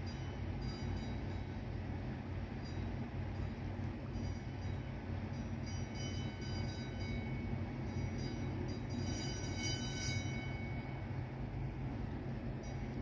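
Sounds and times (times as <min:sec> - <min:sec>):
faint high whining tones: 0:00.0 - 0:13.0
ship engine droning: 0:00.0 - 0:13.0.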